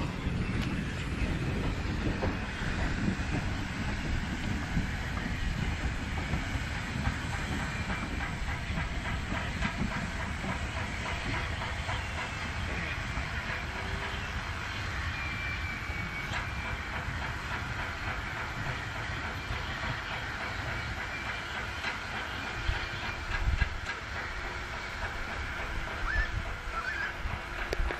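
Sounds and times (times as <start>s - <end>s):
distant train wheels rumbling: 0.0s - 27.9s
steam hiss: 0.0s - 27.9s.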